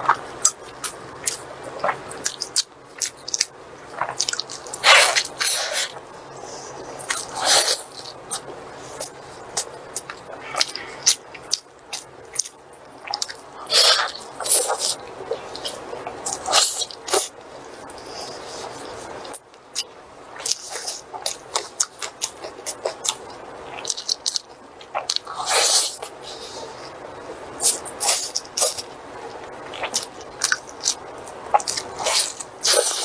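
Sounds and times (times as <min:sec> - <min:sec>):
close chewing and mouth smacks: 0:00.0 - 0:17.3, 0:17.9 - 0:26.9, 0:27.6 - 0:33.0.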